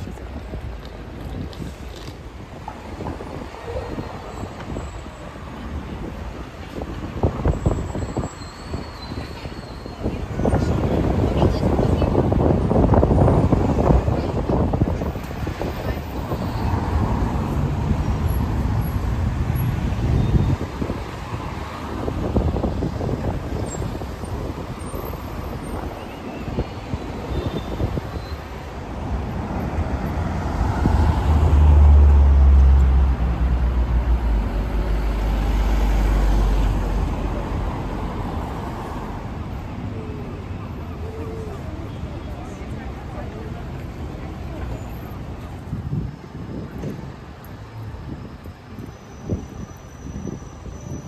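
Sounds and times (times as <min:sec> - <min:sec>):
street traffic passing: 0:00.0 - 0:51.0.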